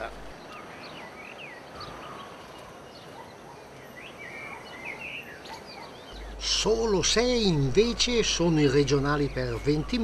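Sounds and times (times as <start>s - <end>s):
outdoor background hiss: 0.0s - 10.0s
small birds chirping: 0.0s - 10.0s.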